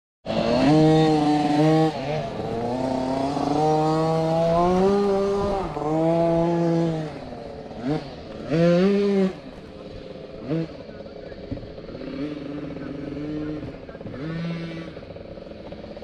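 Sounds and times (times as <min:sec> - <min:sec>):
dirt bike engines revving: 0:00.2 - 0:16.0.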